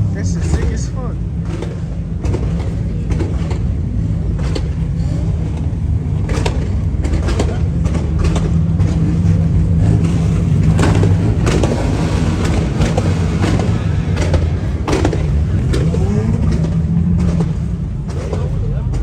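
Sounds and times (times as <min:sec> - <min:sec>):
car engine idling: 0:00.0 - 0:19.0
crowd voices: 0:00.0 - 0:19.0.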